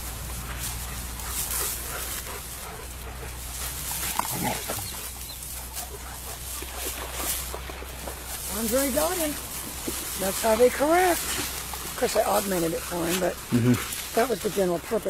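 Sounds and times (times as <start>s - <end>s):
dogs scuffling on grass: 0.0s - 15.0s.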